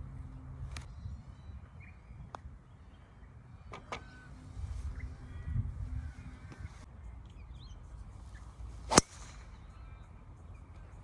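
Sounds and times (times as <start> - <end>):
wind rumble on microphone: 0.0 - 10.0
birds calling: 0.2 - 11.0.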